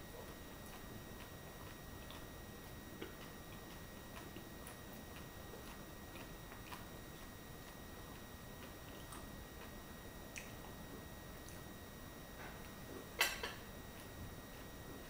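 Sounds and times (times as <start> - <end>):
high electrical whine: 0.0 - 15.0.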